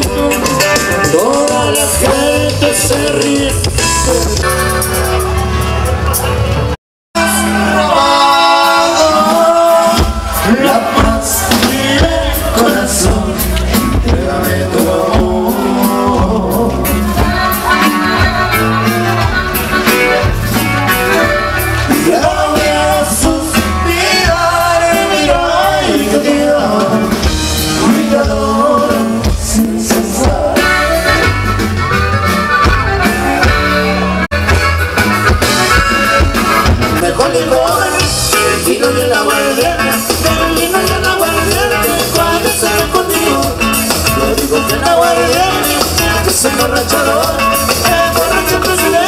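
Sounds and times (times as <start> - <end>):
accordion-led dance band: 0.0 - 49.0.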